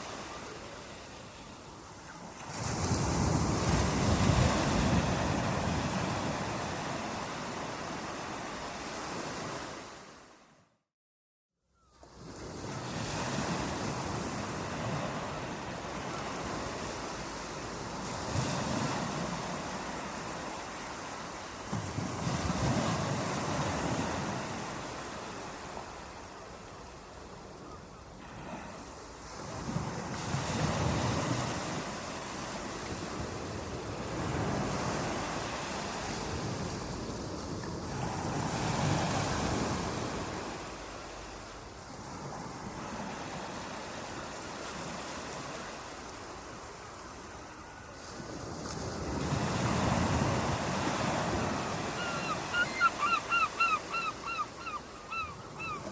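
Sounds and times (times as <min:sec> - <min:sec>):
ocean waves washing onto shore: 0:00.0 - 0:10.4, 0:12.1 - 0:55.9.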